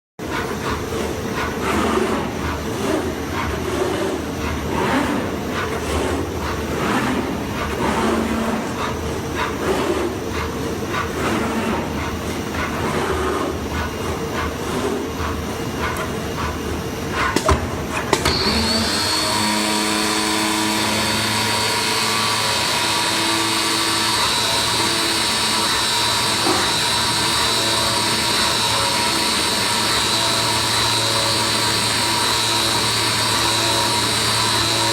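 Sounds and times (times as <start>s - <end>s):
cutting machine running: 0.2s - 34.9s.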